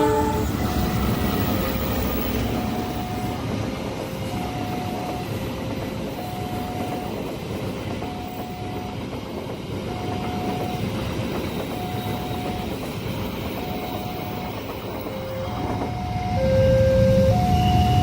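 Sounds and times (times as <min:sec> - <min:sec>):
crossing warning alarm: 0:00.0 - 0:18.0
train wheels rumbling on rails: 0:00.0 - 0:18.0.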